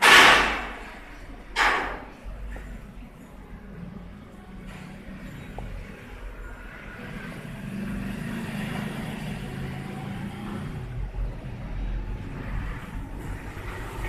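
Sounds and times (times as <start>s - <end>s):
passing road traffic rumble: 0.0s - 14.0s.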